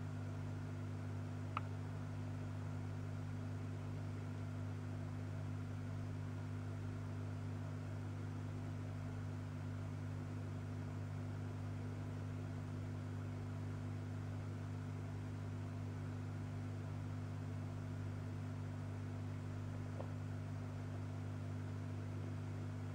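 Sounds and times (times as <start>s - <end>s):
low electrical hum: 0.0s - 22.9s.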